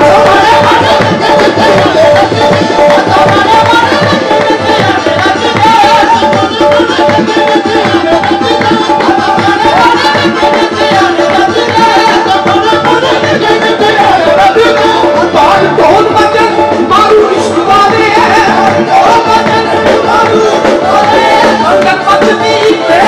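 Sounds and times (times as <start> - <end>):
harmonium melody: 0.0 - 23.0
tabla beat: 0.0 - 23.0.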